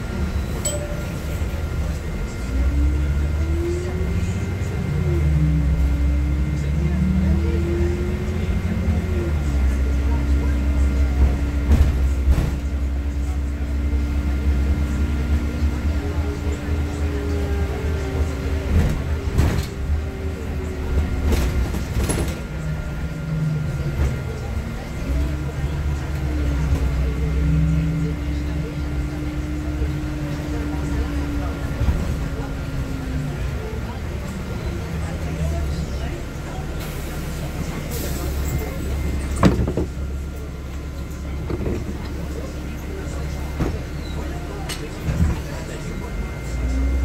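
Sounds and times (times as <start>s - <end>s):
bus engine low rumble: 0.0s - 47.0s.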